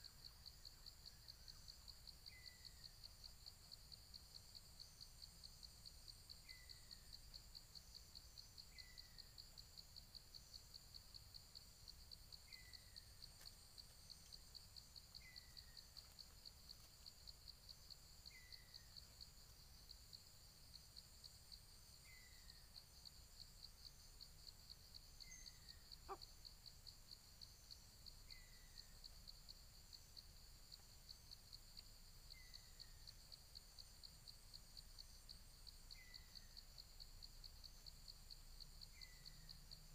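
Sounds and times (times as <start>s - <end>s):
fast-pulsing insect trill: 0.0s - 39.9s.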